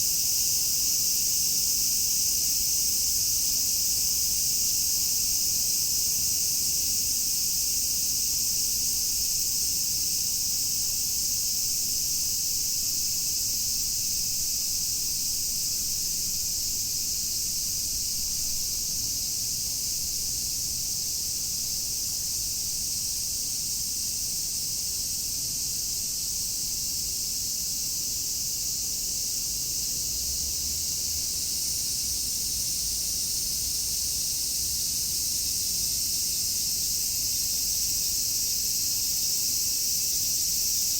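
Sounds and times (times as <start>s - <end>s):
cicadas chorus: 0.0s - 40.9s.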